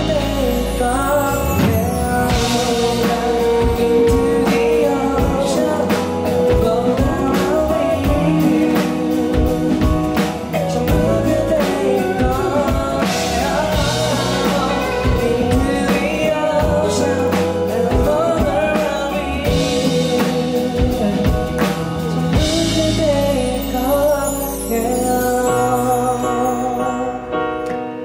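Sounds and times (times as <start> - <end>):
drums with a steady beat: 0.0 - 26.8
electric guitar: 0.0 - 28.0
man singing into a microphone: 0.0 - 28.0.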